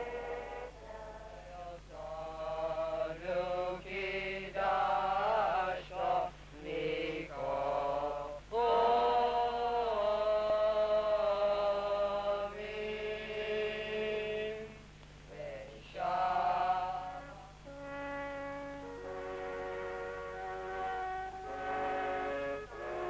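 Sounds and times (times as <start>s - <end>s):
choir singing chant: 0.0s - 17.5s, 20.6s - 23.0s.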